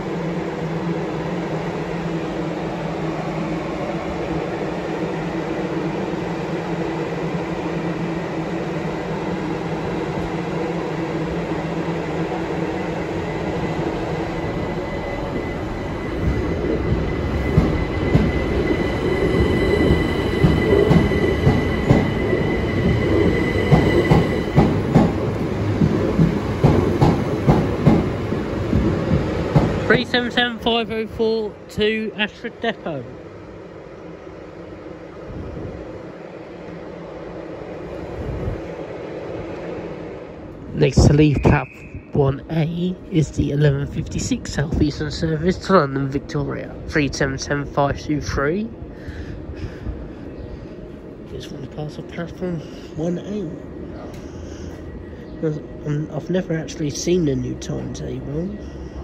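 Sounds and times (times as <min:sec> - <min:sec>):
electric train hum and whine: 0:00.0 - 0:59.0.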